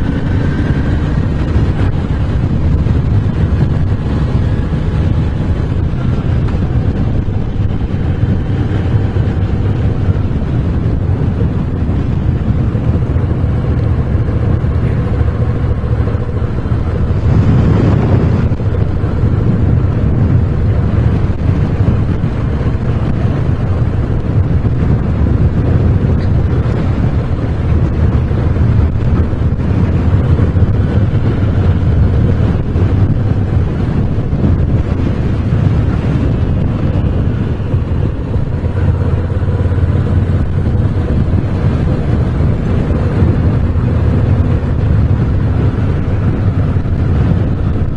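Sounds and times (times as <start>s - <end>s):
motorcycle engine running: 0.0s - 47.9s
wind on microphone: 0.0s - 47.9s.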